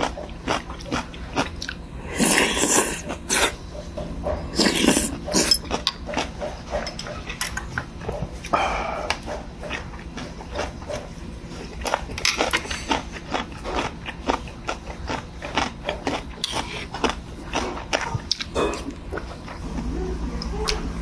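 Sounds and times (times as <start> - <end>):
person chewing with smacking: 0.0 - 21.0.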